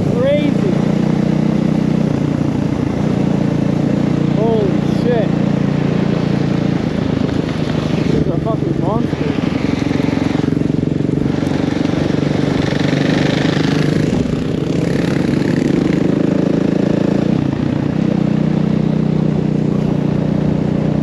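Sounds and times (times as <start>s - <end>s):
dirt bike engine running: 0.0s - 21.0s
wind and tyres on gravel: 0.0s - 21.0s.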